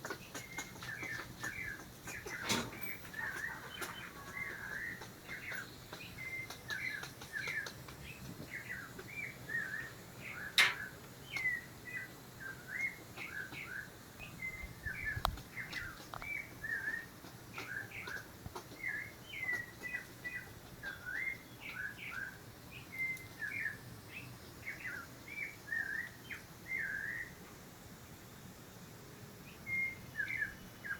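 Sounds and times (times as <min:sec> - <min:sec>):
squirrels chirping: 0:00.0 - 0:27.3.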